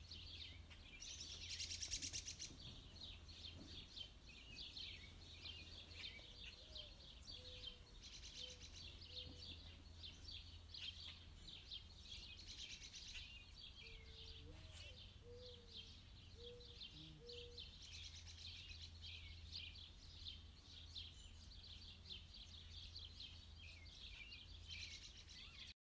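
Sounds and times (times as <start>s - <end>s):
birds chirping and peeping: 0.0s - 25.8s.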